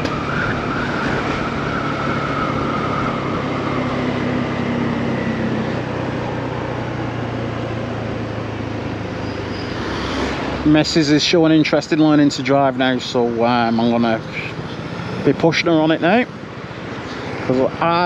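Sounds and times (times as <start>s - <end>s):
higher engine tone: 0.0s - 18.0s
wind and road noise: 0.0s - 18.0s.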